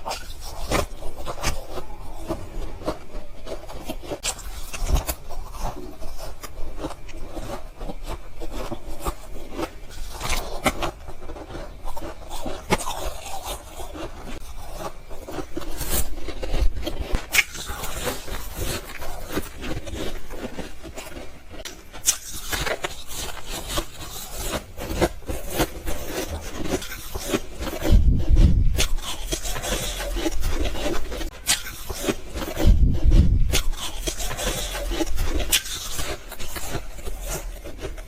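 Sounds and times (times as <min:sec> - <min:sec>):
ice being chewed and crunched: 0:00.0 - 0:38.0.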